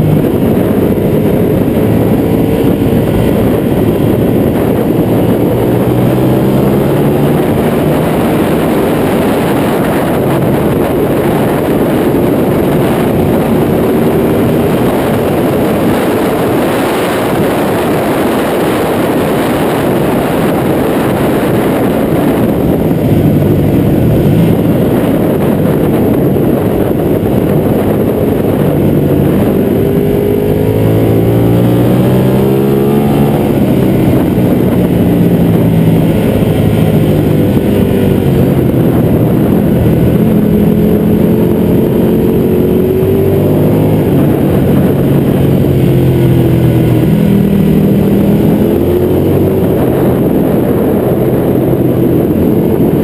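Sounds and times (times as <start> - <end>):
motorcycle engine accelerating: 0.0 - 53.0
wind rush: 0.0 - 53.0.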